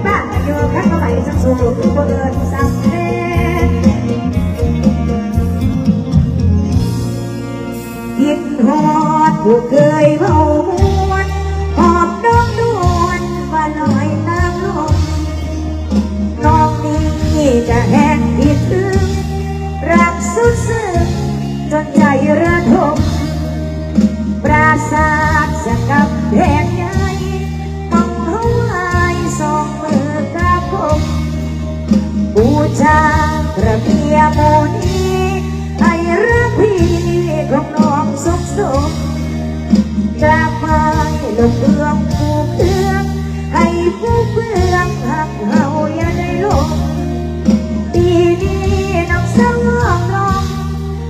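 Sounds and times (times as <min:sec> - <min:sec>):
woman singing through pa: 0:00.0 - 0:04.4, 0:08.2 - 0:15.6, 0:16.4 - 0:23.4, 0:24.4 - 0:31.4, 0:32.3 - 0:39.2, 0:40.2 - 0:47.0, 0:47.8 - 0:50.8
amplified instrumental backing: 0:00.0 - 0:51.0
band accompaniment: 0:00.0 - 0:51.0
steady bass line: 0:00.0 - 0:51.0.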